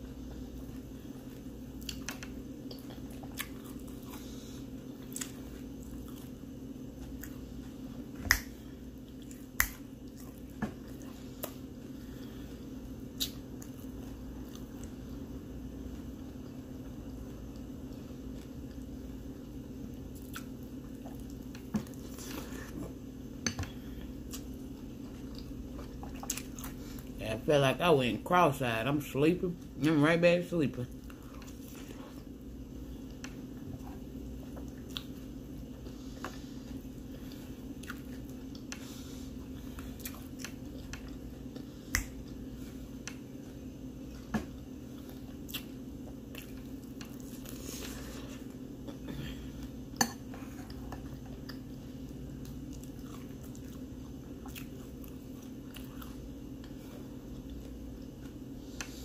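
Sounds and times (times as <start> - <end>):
person chewing cereal: 0.0 - 27.4, 30.8 - 59.0
steady low hum: 0.0 - 59.0.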